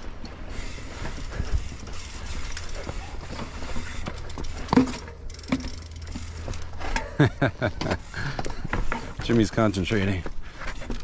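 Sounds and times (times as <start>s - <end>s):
bike rattling: 0.0s - 11.0s
bike tyres clattering on rock: 0.0s - 11.0s.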